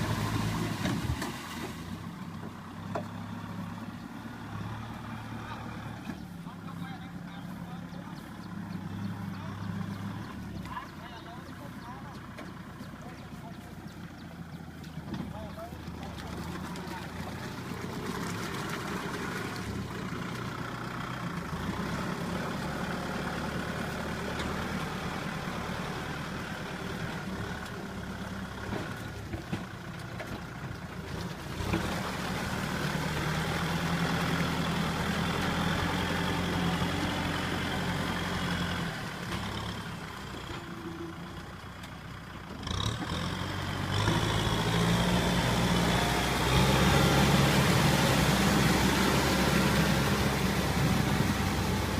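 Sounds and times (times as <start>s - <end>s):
tractor diesel engine revving: 0.0s - 51.9s.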